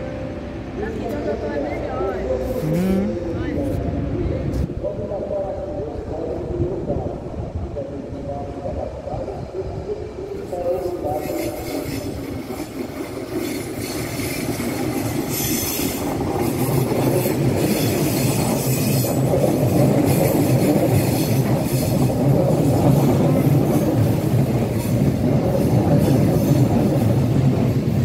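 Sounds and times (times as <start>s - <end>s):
train wheels rumbling on rails: 3.4s - 28.0s.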